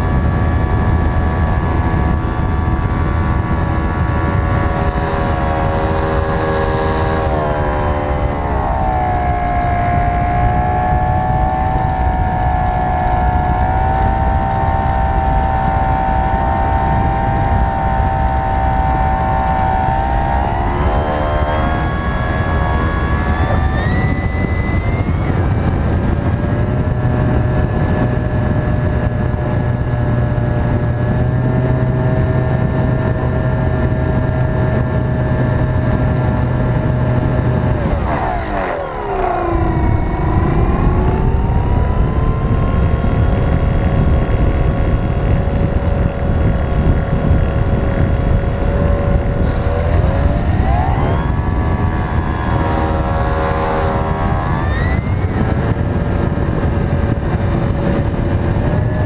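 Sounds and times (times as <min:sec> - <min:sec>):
model aeroplane motor whine: 0:00.0 - 0:59.0.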